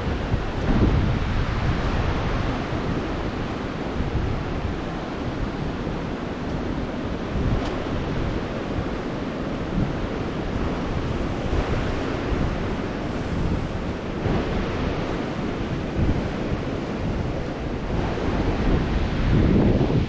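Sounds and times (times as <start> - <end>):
surf washing onto beach: 0.0 - 20.0
wind buffeting microphone: 0.0 - 20.0.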